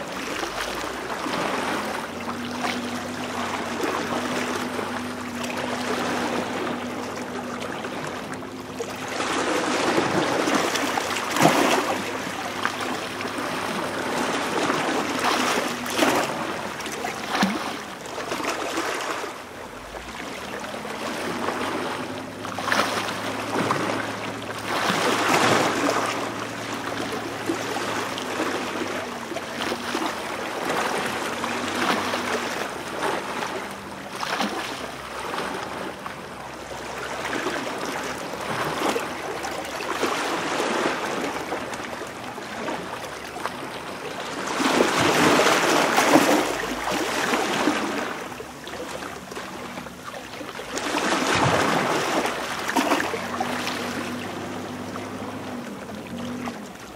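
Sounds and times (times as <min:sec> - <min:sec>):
sea water splashing over rocks: 0:00.0 - 0:56.9
trickling water: 0:00.0 - 0:56.9.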